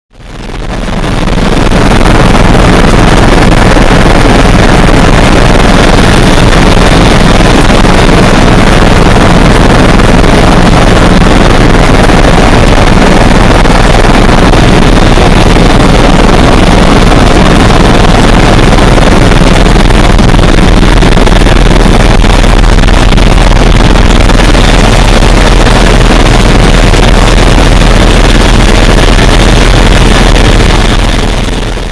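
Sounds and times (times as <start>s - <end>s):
distorted helicopter noise: 0.1s - 31.9s.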